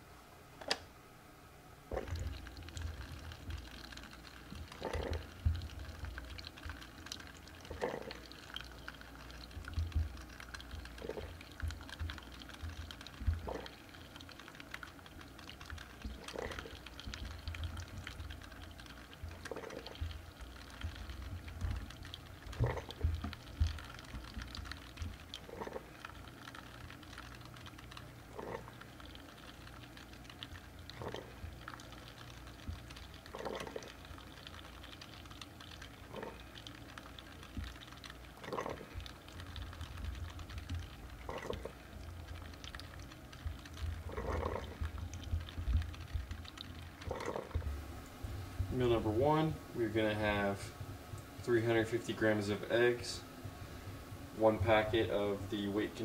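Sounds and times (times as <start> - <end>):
low machine hum: 0.0 - 56.0
coffee stream running into cup: 1.9 - 56.0.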